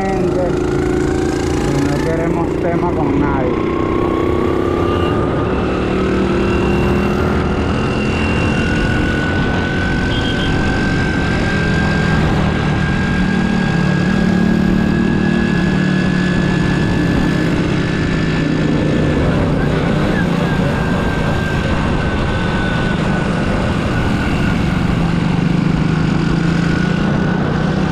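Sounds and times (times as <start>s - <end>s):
constant rushing noise: 0.0s - 27.9s
motorcycle engine running: 0.0s - 27.9s.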